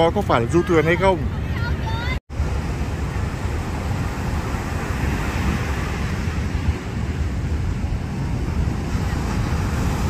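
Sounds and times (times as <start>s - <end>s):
waves breaking on beach: 0.0s - 10.0s
wind buffeting microphone: 0.0s - 10.0s.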